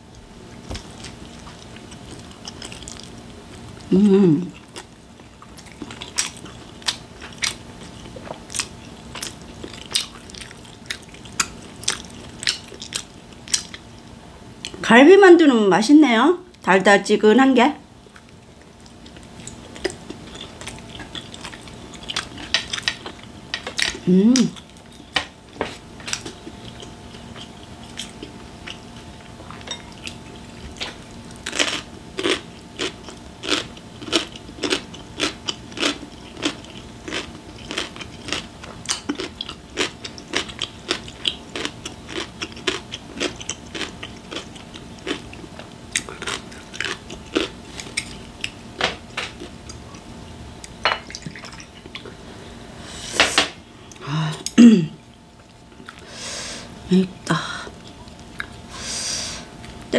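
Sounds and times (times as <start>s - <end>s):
person chewing dumpling: 0.0s - 14.0s, 18.0s - 52.3s, 53.6s - 56.8s, 57.4s - 59.9s.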